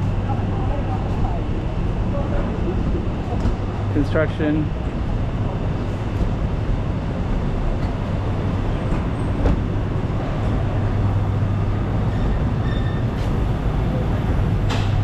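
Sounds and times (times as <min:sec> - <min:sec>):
machinery drone: 0:00.0 - 0:15.0
street noise: 0:00.0 - 0:15.0.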